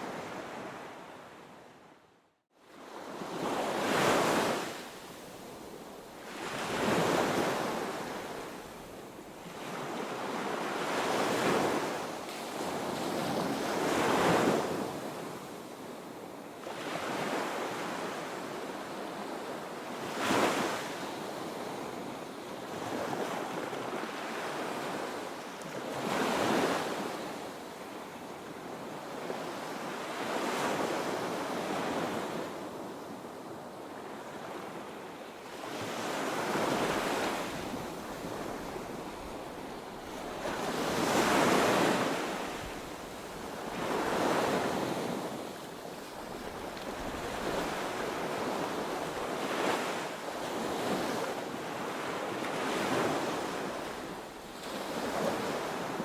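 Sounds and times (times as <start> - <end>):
ocean waves breaking on beach: 2.6 - 56.0.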